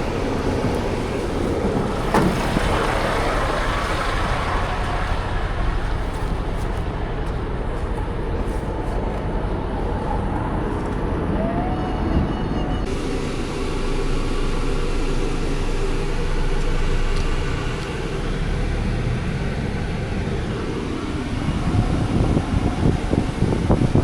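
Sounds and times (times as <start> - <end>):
truck diesel engine drone: 0.0 - 24.0.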